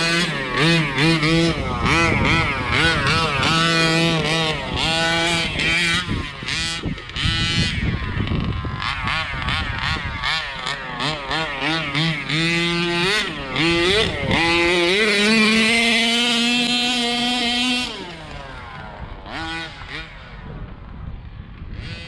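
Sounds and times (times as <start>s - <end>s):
rc car engine revving: 0.0s - 22.0s.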